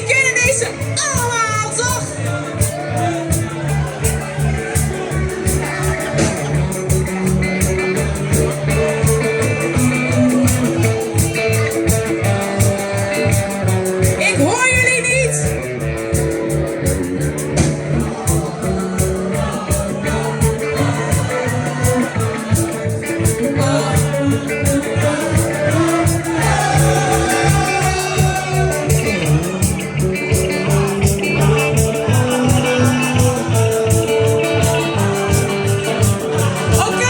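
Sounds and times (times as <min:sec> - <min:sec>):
bass guitar: 0:00.0 - 0:37.0
drums steady beat: 0:00.0 - 0:37.0
electric guitar: 0:00.0 - 0:37.0.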